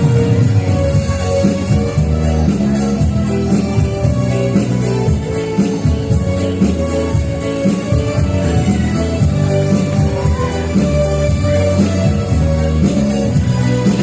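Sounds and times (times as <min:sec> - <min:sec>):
instrumental accompaniment: 0:00.0 - 0:14.0.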